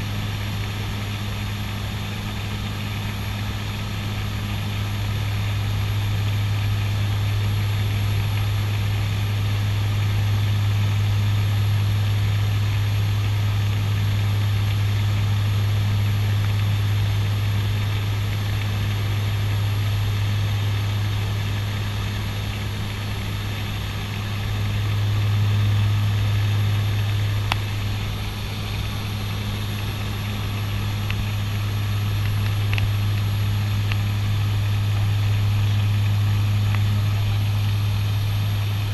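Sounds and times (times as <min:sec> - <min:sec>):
propeller engine drone: 0:00.0 - 0:38.9.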